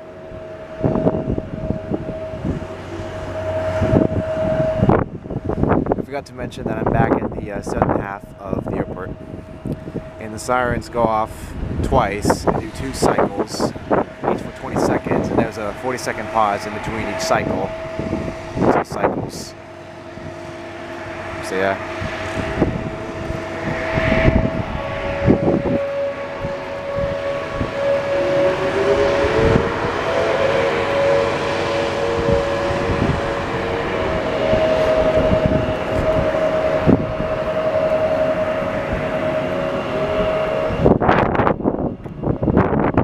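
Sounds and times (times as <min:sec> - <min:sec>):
tornado warning sirens: 0:00.0 - 0:43.0
wind buffeting microphone: 0:00.0 - 0:43.0.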